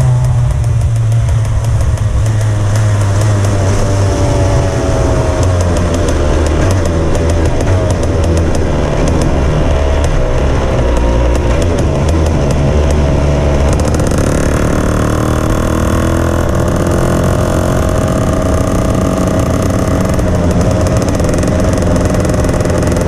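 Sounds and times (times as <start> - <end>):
go-kart engine at low revs: 0.0 - 23.0.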